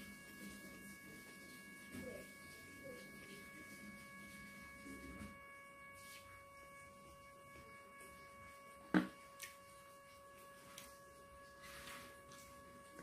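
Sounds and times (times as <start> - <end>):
steady high-pitched tone: 0.0 - 13.0.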